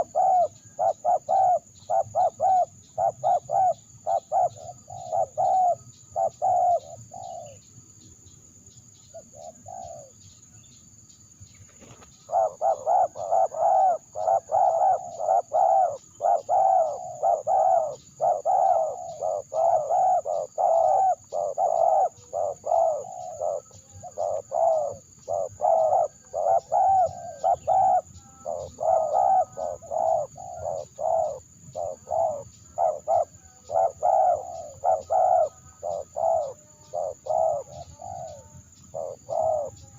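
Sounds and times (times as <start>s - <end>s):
dove cooing: 0.0s - 7.6s, 9.1s - 10.2s, 11.8s - 39.9s.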